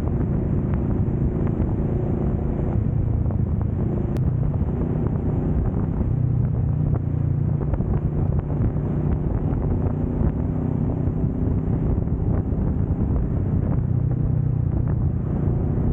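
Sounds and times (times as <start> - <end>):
motorcycle engine cruising: 0.0 - 15.9
wind rushing over microphone: 0.0 - 15.9.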